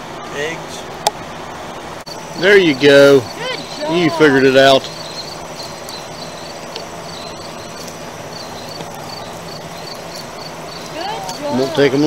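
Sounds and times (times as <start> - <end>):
background hum: 0.0 - 12.0
insect chirping high-pitched: 2.1 - 12.0.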